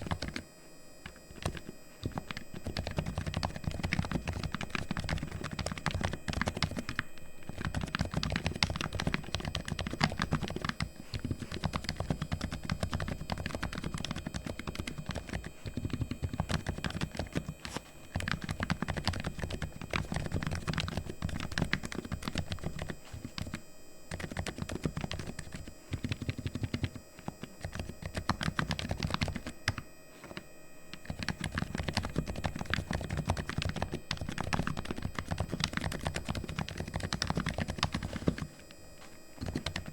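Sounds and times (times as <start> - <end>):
keyboard typing: 0.0 - 0.4, 1.0 - 38.5, 39.4 - 39.9.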